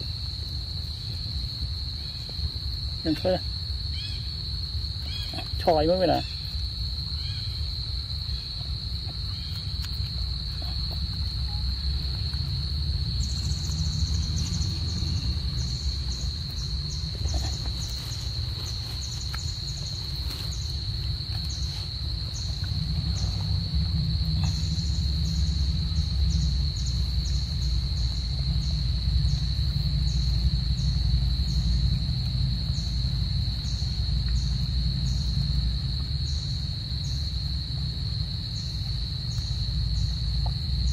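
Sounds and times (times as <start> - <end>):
insect chirps: 0.0 - 40.9
insect high-pitched drone: 0.0 - 40.9
low rumble: 6.6 - 40.9.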